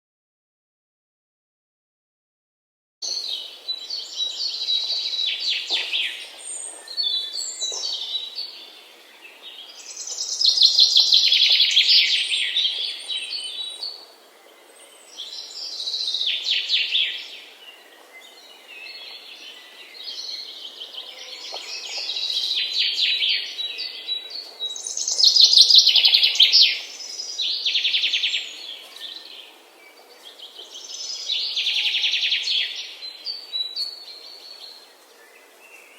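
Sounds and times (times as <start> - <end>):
songbirds trilling: 3.0 - 35.9.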